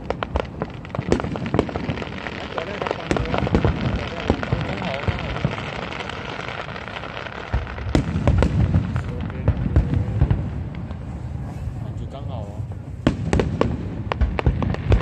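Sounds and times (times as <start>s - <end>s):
fireworks crackling: 0.0s - 15.0s
fireworks low booms: 0.0s - 15.0s.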